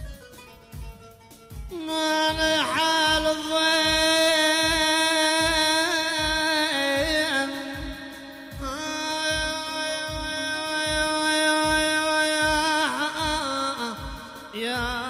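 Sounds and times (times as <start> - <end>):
soft low beat: 0.0 - 15.0
man singing long held notes: 1.7 - 15.0.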